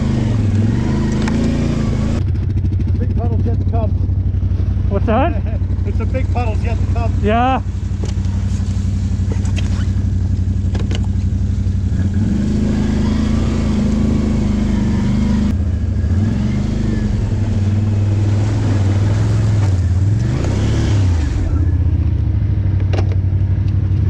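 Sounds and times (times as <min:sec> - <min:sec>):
quad engine revving: 0:00.0 - 0:24.0.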